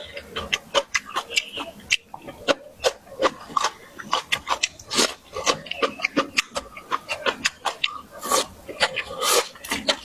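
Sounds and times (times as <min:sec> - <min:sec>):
noisy slurp or crunch: 0:00.0 - 0:10.0
wet chewing and lip-smacking: 0:00.0 - 0:10.0.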